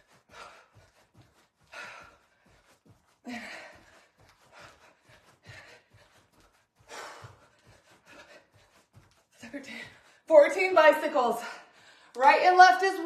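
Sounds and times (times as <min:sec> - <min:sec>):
woman breathing hard: 0:00.0 - 0:10.3, 0:11.4 - 0:12.2.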